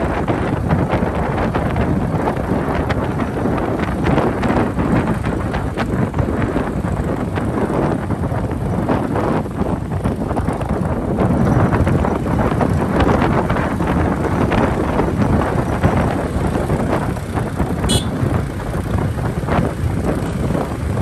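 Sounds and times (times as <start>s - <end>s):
wind rushing over microphone: 0.0s - 21.0s
motorcycle engine running: 0.1s - 21.0s.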